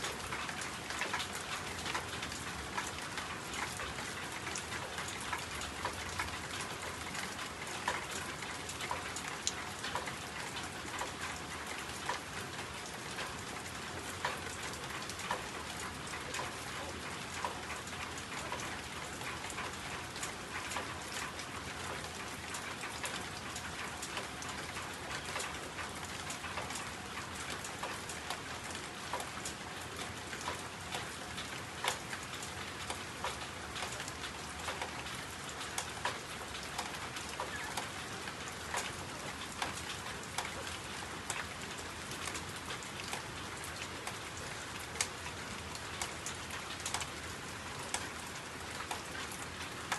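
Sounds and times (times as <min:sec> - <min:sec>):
steady rain hiss: 0:00.0 - 0:49.9
drip ticks: 0:00.1 - 0:47.2.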